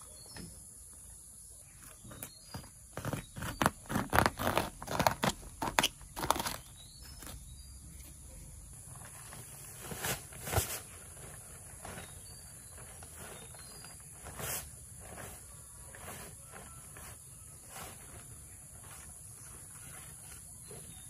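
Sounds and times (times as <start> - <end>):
knocks and scrapes: 1.7 - 8.2, 8.8 - 21.0.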